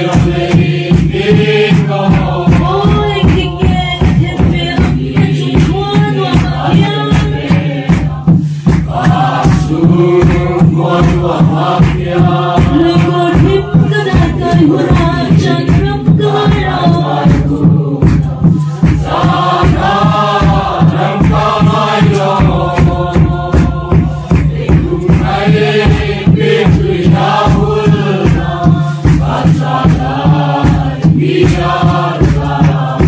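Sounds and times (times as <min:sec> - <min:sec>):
crowd singing in unison: 0:00.0 - 0:33.0
steady regular beat: 0:00.0 - 0:33.0.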